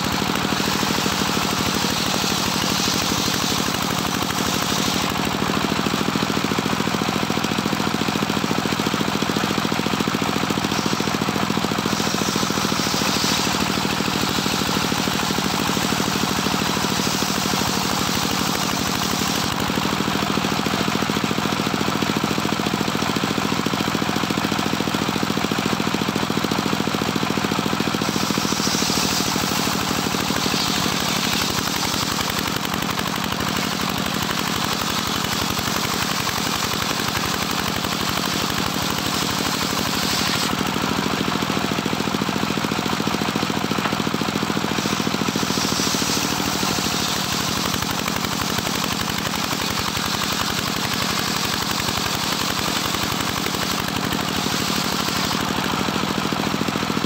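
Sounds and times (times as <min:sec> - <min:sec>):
saw blade cutting wood: 0:00.0 - 0:57.0
sawmill engine running: 0:00.0 - 0:57.0.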